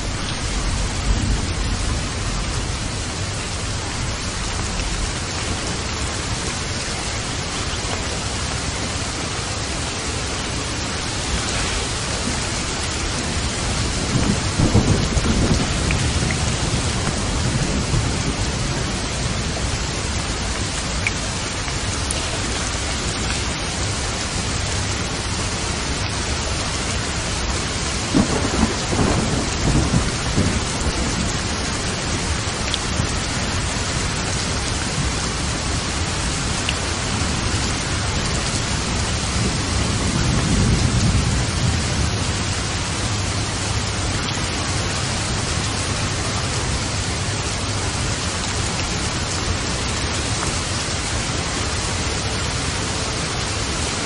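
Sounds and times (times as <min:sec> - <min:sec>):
steady rain: 0:00.0 - 0:54.0
thunder crackling and rumbling: 0:00.0 - 0:54.0.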